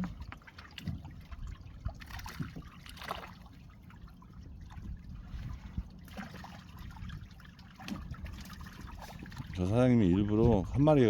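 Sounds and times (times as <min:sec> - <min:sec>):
water splashing and lapping: 0:00.0 - 0:11.0.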